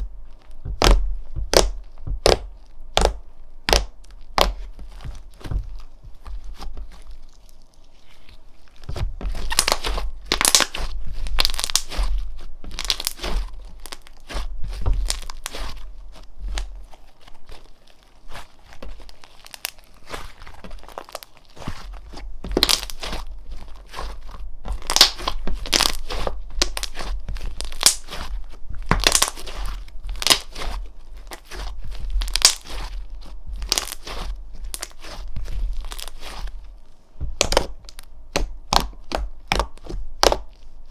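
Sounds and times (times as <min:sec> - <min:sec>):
slime crackling and popping: 0:00.0 - 0:40.9.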